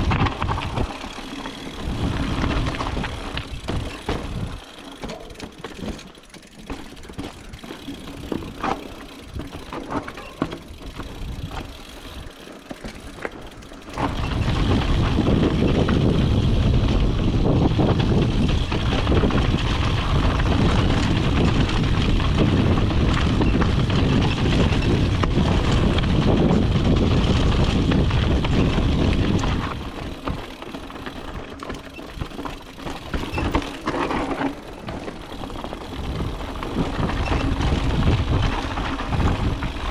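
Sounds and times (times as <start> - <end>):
bike knocks and rattles: 0.0 - 39.9
bike tyres rolling on dirt: 0.0 - 39.9.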